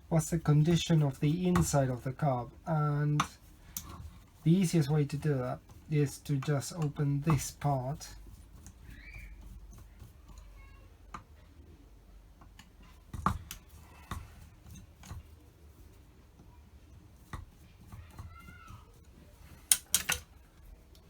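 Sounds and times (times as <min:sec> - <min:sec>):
tools clicking and scraping on metal: 0:00.3 - 0:11.4, 0:12.4 - 0:21.0.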